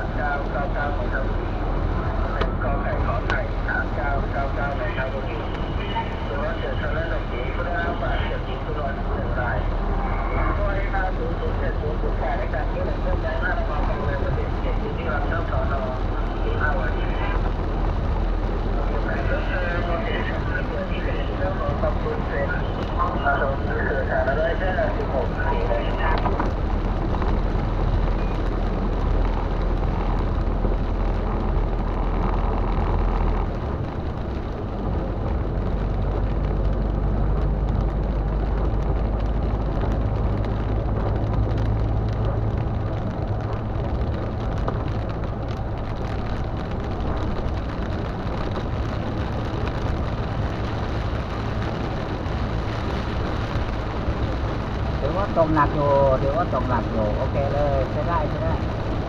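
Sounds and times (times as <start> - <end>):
car engine hum: 0.0 - 59.0
rain falling on car: 0.0 - 59.0.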